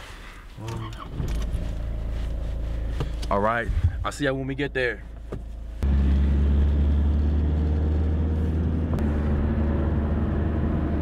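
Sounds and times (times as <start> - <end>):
car driving heard from inside: 0.5 - 11.0.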